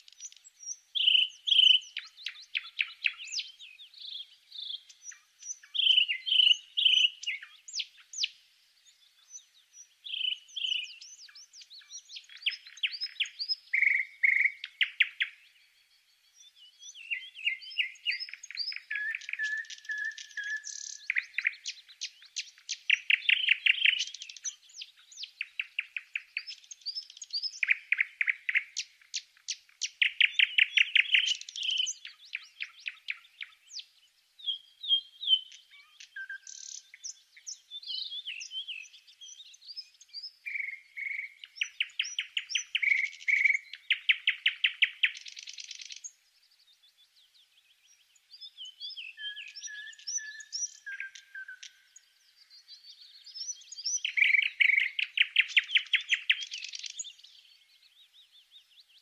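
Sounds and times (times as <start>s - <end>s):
small bird singing trills: 0.0s - 59.0s.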